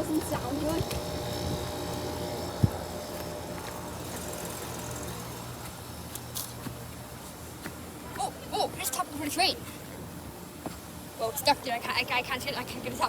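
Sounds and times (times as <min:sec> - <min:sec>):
heat pump humming: 0:00.0 - 0:13.0.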